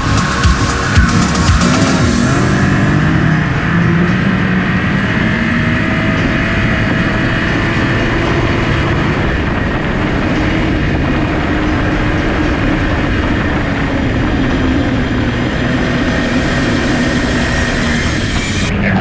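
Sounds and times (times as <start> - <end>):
snowmobile engine running: 0.0 - 18.7.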